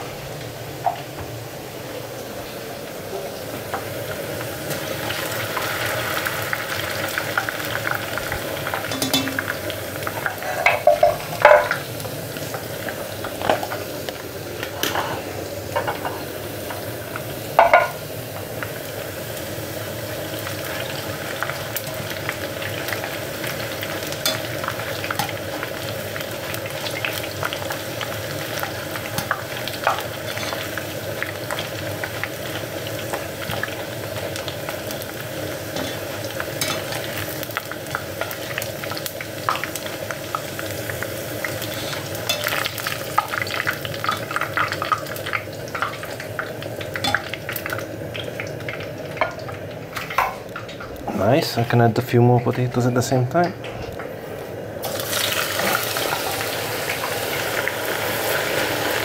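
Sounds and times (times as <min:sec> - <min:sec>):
potato slices sizzling in fat: 0:02.0 - 0:53.5, 0:54.8 - 0:59.0.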